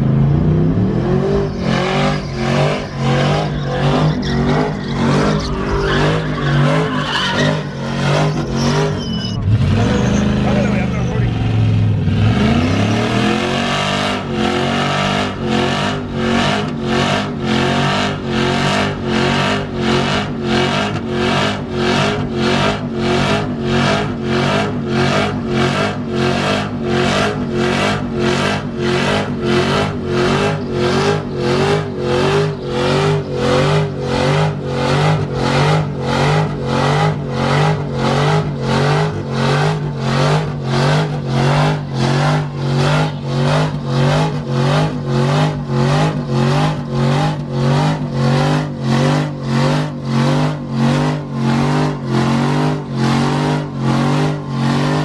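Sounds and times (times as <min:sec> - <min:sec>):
engine at high revs: 0:00.0 - 0:55.0.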